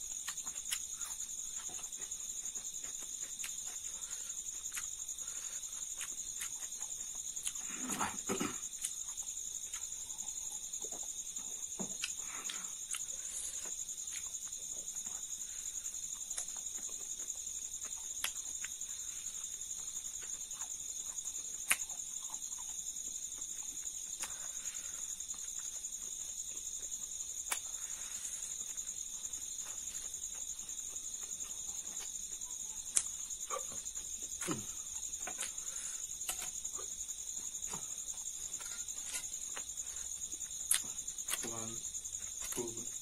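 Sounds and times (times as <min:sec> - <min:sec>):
crickets chirring: 0:00.0 - 0:43.0
crunchy chewing: 0:00.0 - 0:43.0.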